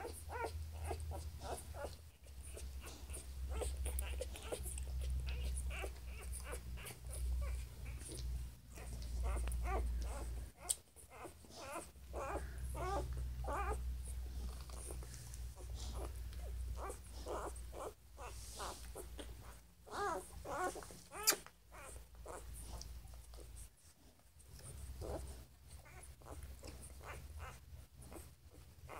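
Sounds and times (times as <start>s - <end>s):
puppies whimpering and squeaking: 0.0s - 23.9s, 24.5s - 28.9s.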